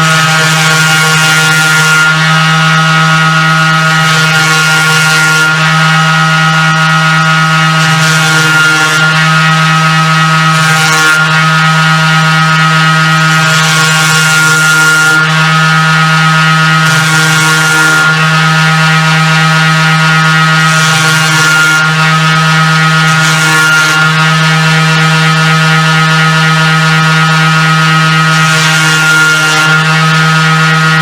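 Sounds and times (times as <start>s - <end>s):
table saw motor running: 0.0s - 31.0s.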